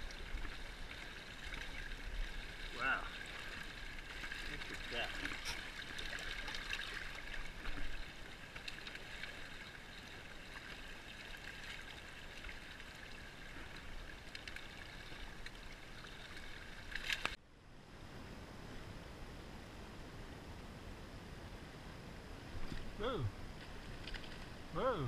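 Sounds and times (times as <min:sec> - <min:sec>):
river water flowing: 0:00.0 - 0:17.4, 0:18.0 - 0:25.0.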